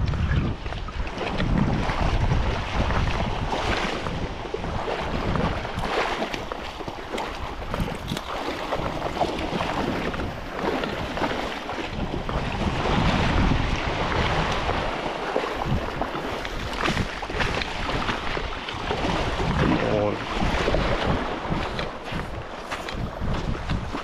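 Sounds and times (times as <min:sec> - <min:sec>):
small waves washing ashore: 0:00.0 - 0:24.0
wind buffeting microphone: 0:00.0 - 0:24.0.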